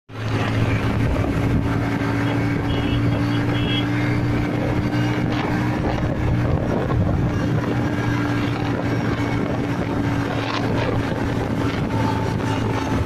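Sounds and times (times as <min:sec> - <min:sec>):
tyre road noise: 0:00.1 - 0:13.0
vehicle engine droning: 0:00.1 - 0:13.0.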